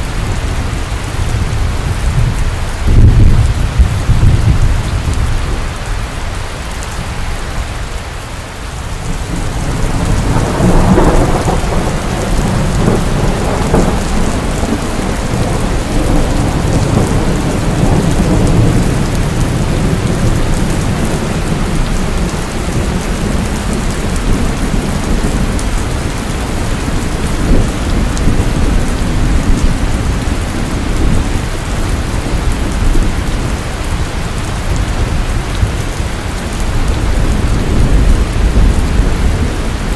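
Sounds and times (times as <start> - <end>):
thunder rumbling: 0.0 - 5.8, 8.8 - 39.9
heavy rain: 0.0 - 39.9.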